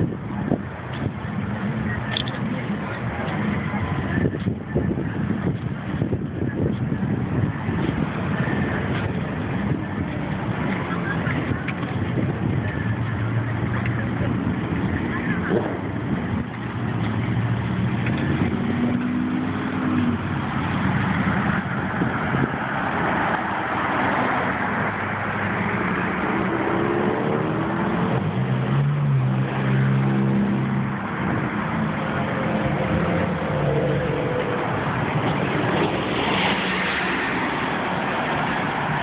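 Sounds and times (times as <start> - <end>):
cars passing and accelerating: 0.0 - 39.0
road hum: 0.0 - 39.0.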